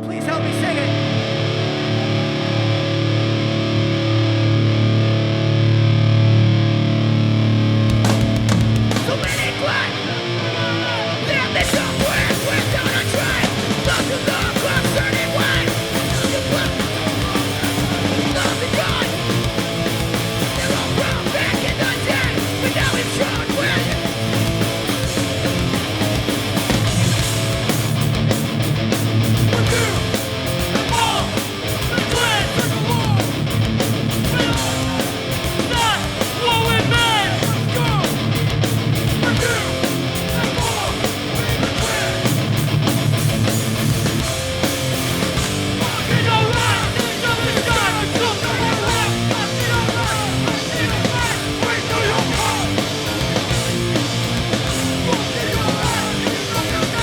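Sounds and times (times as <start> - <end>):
punk band playing live: 0.0 - 57.0.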